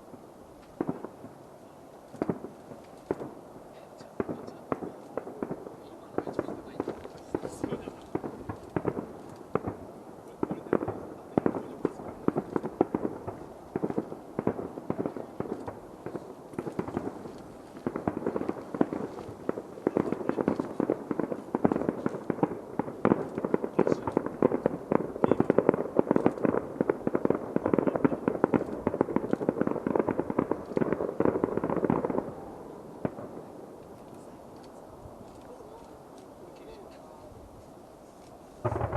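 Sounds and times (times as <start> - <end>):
distant fireworks bangs and crackles: 0.0 - 37.3, 38.2 - 38.9.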